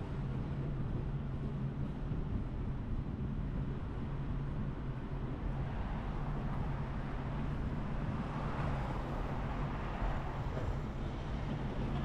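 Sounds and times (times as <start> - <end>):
rush of travel noise: 0.0 - 12.0.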